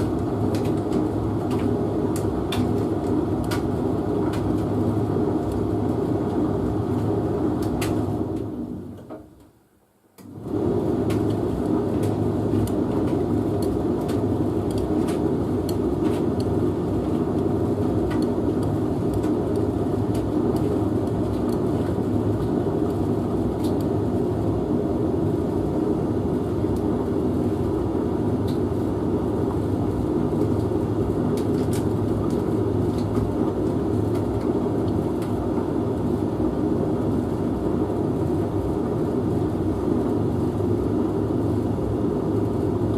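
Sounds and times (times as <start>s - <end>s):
washing machine rumbling and humming: 0.0s - 42.9s.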